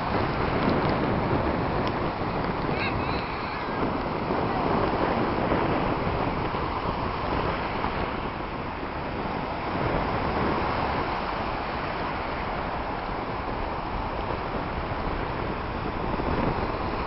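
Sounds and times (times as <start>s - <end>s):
ocean surf washing onto beach: 0.0s - 17.0s
wind rumbling on microphone: 0.0s - 17.0s.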